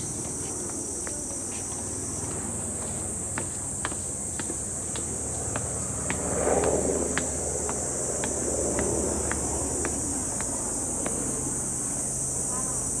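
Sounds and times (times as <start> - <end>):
footsteps on stone steps: 0.0 - 11.2
cicadas droning: 0.0 - 13.0.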